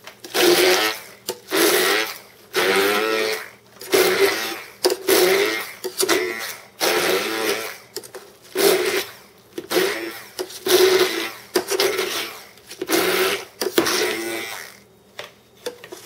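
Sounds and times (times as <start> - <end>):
stick blender motor whirring: 0.2 - 14.9.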